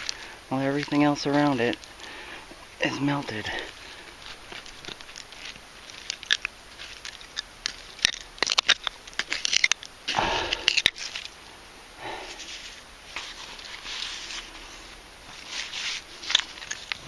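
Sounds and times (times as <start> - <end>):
glass crunching scrape: 0.0 - 9.9, 10.5 - 11.3, 12.4 - 17.0.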